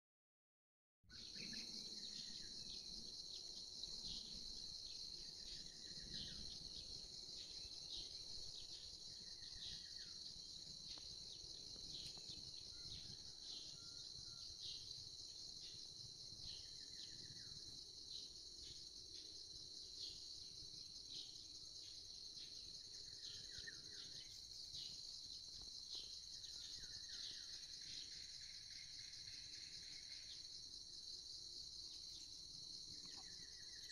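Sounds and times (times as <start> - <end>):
insects trilling: 1.1 - 33.9.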